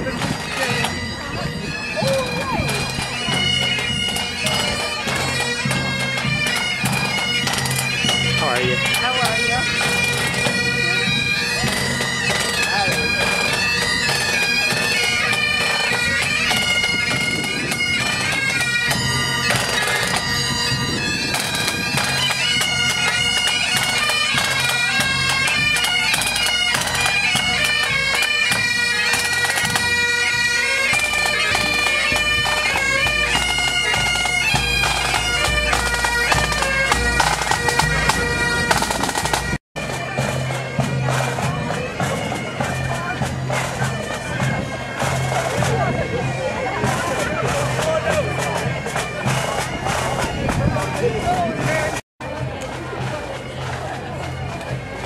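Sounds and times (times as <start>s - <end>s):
bagpipes playing marching tune: 0.0s - 55.0s.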